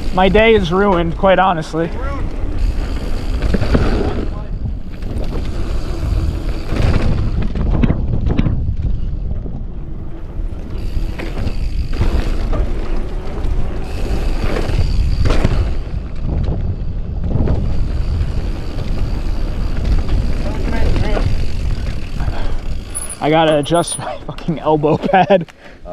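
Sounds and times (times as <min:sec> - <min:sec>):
bike clattering over bumps: 0:00.0 - 0:24.8
wind rumble on microphone: 0:00.0 - 0:25.2.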